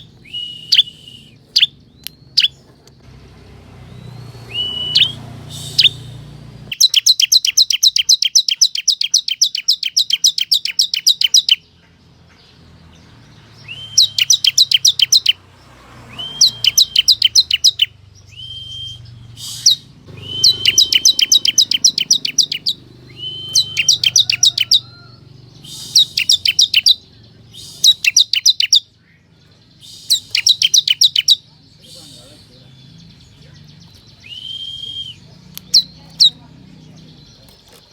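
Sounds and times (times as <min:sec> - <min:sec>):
prinia singing rapid high chirps: 0:00.0 - 0:37.9.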